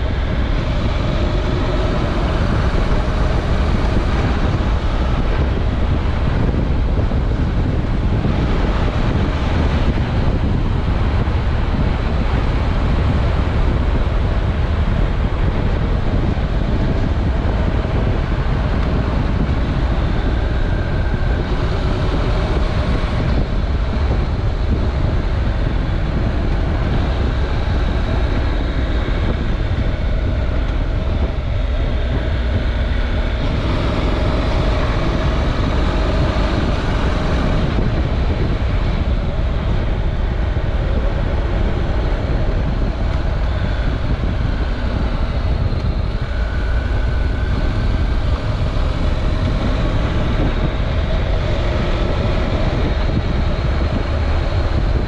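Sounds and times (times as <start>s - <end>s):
motorcycle engine cruising: 0.0s - 55.0s
wind rush on microphone: 0.0s - 55.0s.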